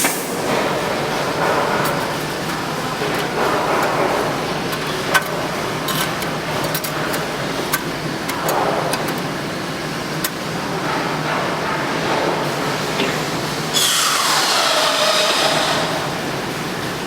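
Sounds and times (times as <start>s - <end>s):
welding machine hum: 0.0s - 11.4s, 12.0s - 17.0s.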